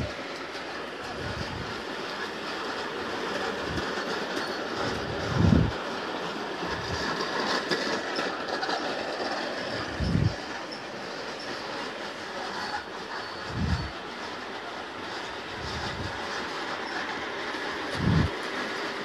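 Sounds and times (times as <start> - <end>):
model train whirring on rails: 0.0 - 19.0.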